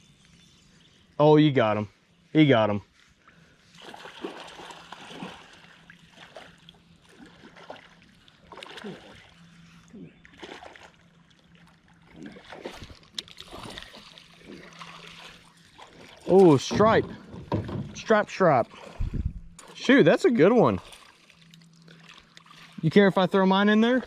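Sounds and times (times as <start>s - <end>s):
river water splashing: 3.6s - 24.0s.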